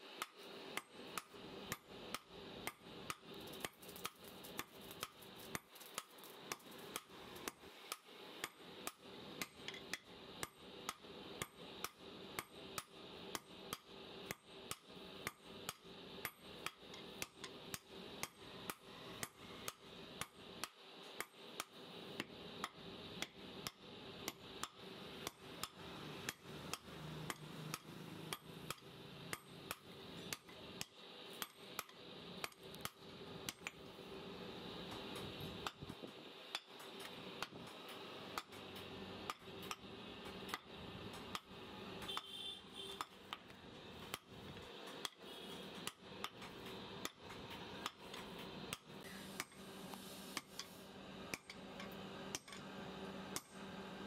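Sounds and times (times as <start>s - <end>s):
hammers striking steel on anvil: 0.2s - 33.8s, 35.6s - 42.3s, 42.9s - 49.6s, 51.3s - 52.6s, 53.3s - 53.6s.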